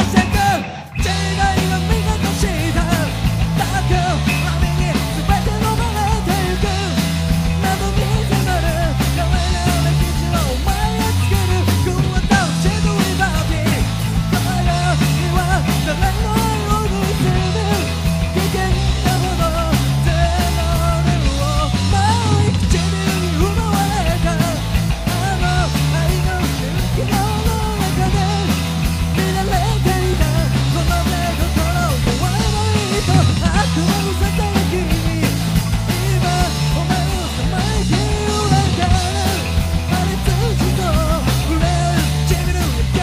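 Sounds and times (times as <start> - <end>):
live rock band: 0.0 - 43.0
man singing: 0.0 - 43.0.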